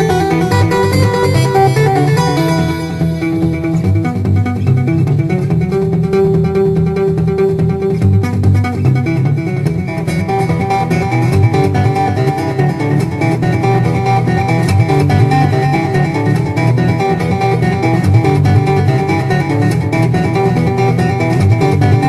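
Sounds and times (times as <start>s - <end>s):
bass line: 0.0s - 22.0s
plucked guitar: 0.0s - 22.0s.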